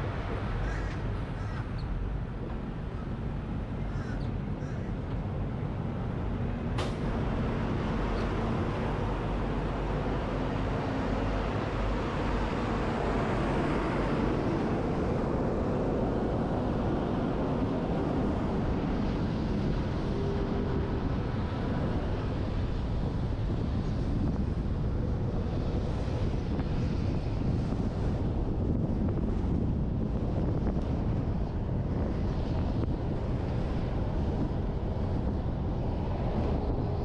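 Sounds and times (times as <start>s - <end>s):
wind and road noise: 0.0s - 37.0s.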